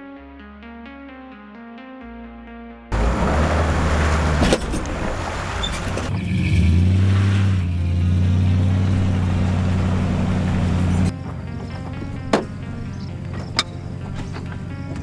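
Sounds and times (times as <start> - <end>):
boat motor running: 2.9 - 15.0.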